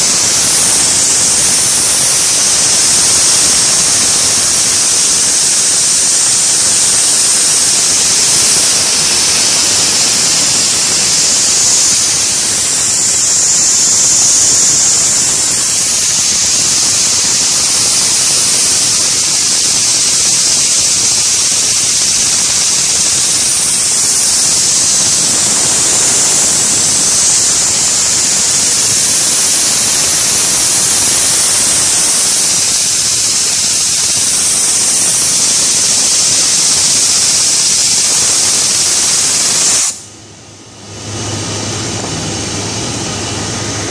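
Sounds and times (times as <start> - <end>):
loud hiss of air: 0.0 - 43.9
small air engine running: 0.0 - 43.9.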